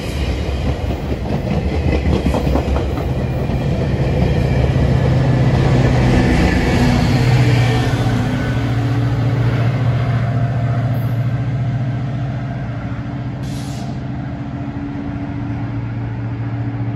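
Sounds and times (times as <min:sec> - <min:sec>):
diesel locomotive drone: 0:00.0 - 0:16.9
train wheels rolling on rails: 0:00.0 - 0:16.9.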